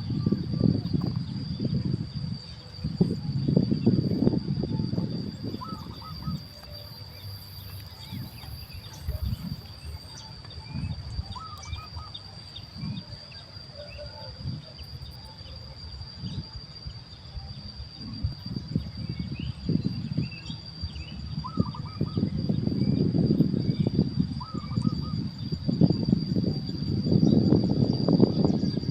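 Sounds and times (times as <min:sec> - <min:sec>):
high-pitched insect buzz: 0:00.0 - 0:28.9
low gusty rumble: 0:00.0 - 0:28.9.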